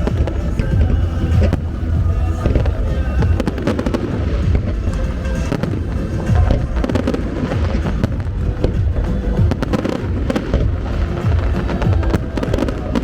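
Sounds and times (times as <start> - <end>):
deep rumble of fireworks bursts: 0.0 - 13.0
fireworks crackling and popping: 0.0 - 13.0
music playing: 0.0 - 13.0.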